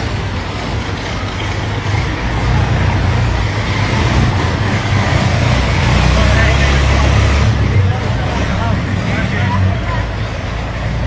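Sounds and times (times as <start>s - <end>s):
car engine running: 0.0s - 11.0s
street noise: 0.0s - 11.0s.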